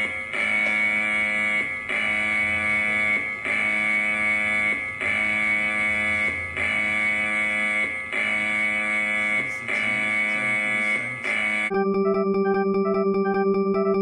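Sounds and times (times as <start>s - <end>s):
buzzing alarm tone pulses: 0.0s - 14.0s.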